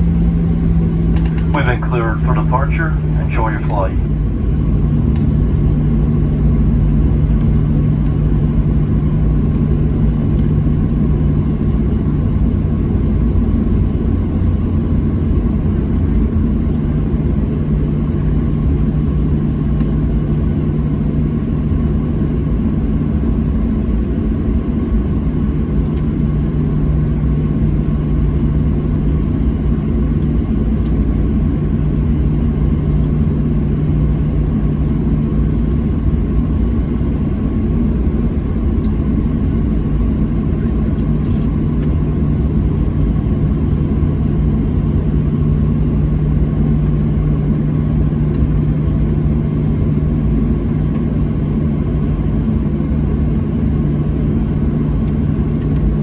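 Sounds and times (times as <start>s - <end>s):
jet engines droning: 0.0s - 56.0s.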